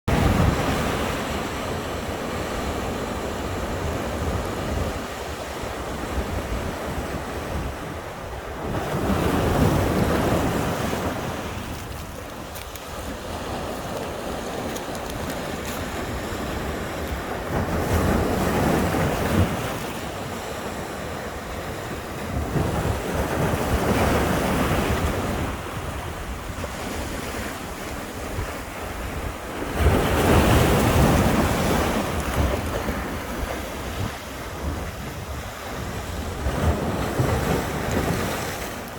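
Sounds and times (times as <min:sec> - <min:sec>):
waves breaking: 0:00.1 - 0:38.9
wind buffeting microphone: 0:00.1 - 0:38.9.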